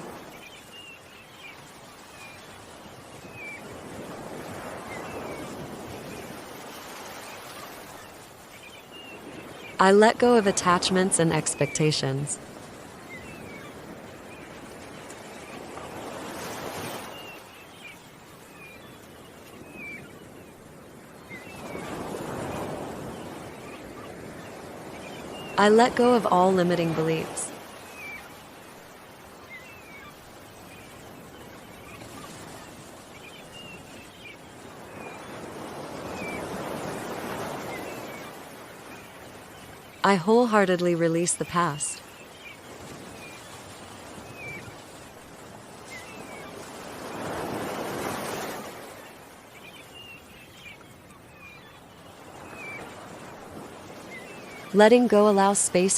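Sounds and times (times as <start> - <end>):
ocean waves washing in: 0.0 - 55.9
small birds chirping: 0.1 - 55.9.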